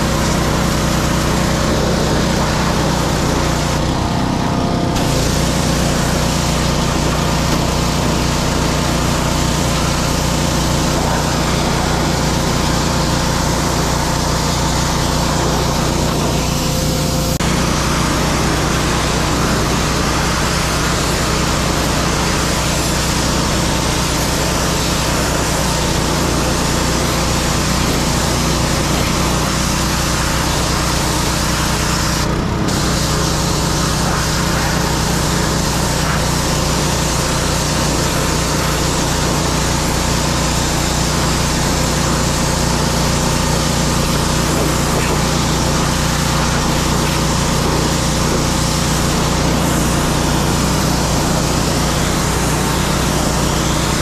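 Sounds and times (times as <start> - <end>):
pressure washer engine hum: 0.0 - 54.0
water jet hissing on wood: 0.0 - 54.0.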